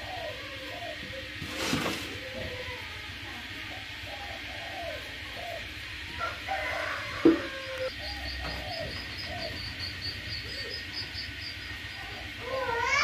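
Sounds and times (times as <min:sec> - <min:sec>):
birds low curved calls: 0:00.0 - 0:13.0.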